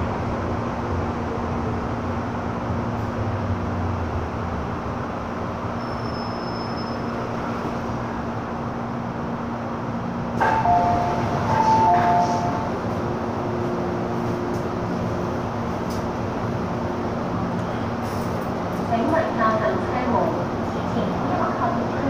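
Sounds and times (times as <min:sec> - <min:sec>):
metro car rumble and hum: 0:00.0 - 0:22.0.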